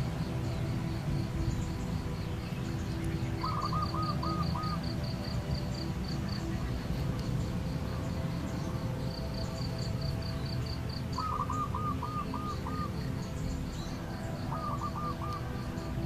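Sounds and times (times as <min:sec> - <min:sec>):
bird calling lower notes: 0:00.0 - 0:16.0.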